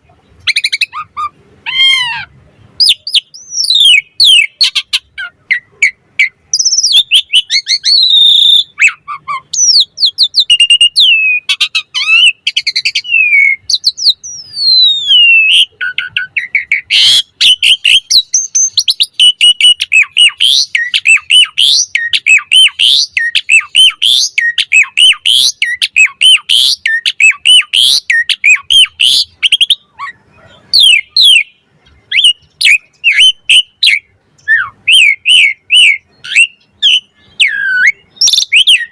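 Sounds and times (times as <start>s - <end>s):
starling singing whistles: 2.8s - 38.9s.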